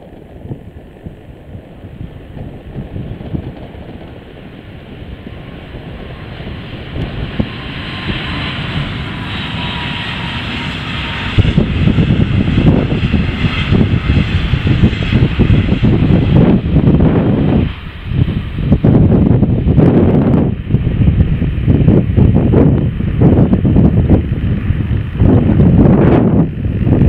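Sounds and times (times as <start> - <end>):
faint whine: 0.0 - 27.0
train wheels rumbling on rail: 0.0 - 27.0.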